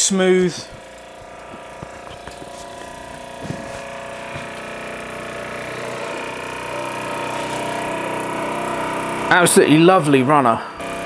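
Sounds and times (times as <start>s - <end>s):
model steam engine whirring: 0.0s - 11.0s.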